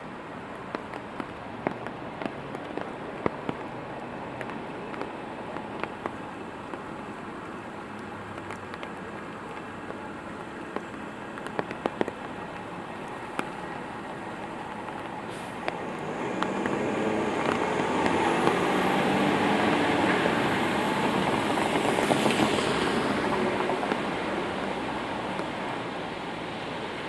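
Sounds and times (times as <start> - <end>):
steady rainfall: 0.0 - 27.0
vehicle on wet street: 0.0 - 27.0.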